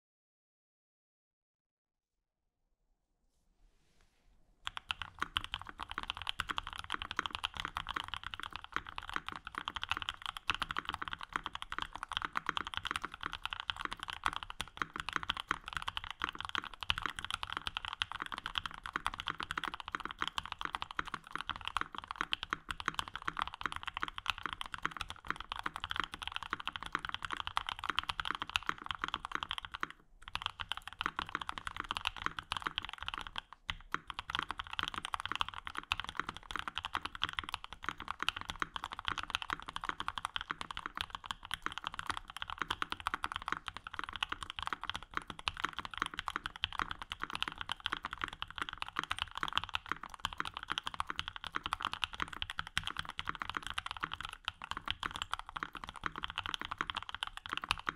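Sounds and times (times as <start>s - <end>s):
mechanical keyboard typing: 4.7s - 57.9s.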